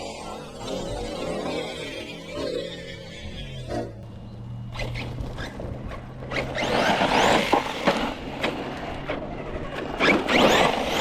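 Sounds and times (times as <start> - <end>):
tyres on dirt: 0.0 - 11.0.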